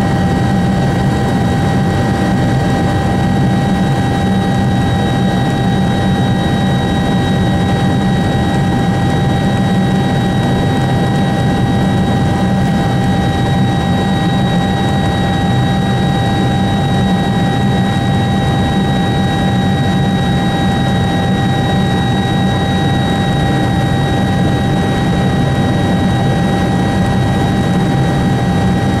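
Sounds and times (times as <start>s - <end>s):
helicopter engine and rotor drone: 0.0s - 29.0s
high-pitched whine: 0.0s - 29.0s.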